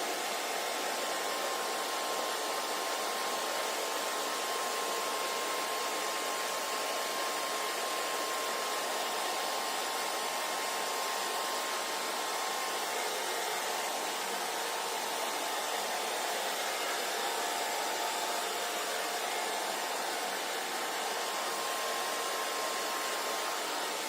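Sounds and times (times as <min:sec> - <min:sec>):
hair dryer blowing air: 0:00.0 - 0:24.0.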